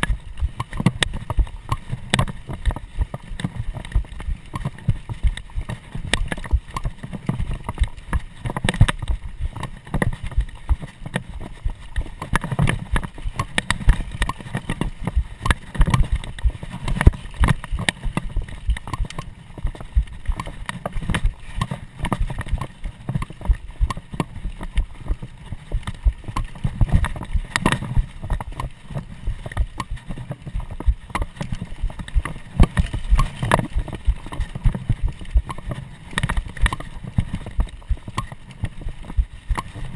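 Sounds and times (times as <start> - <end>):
bike knocks and rattles: 0.0 - 39.9
rumble of tyres and wind: 0.0 - 39.9.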